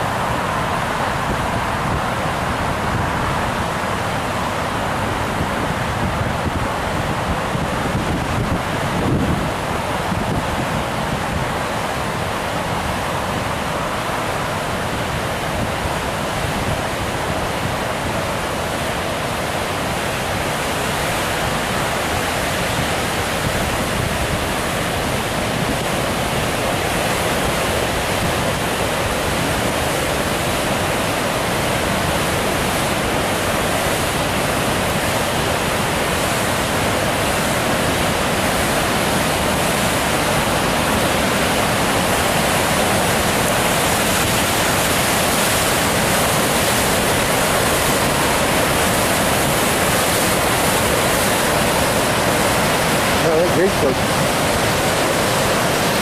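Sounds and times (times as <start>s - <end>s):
river water pouring over a dam: 0.0s - 56.0s.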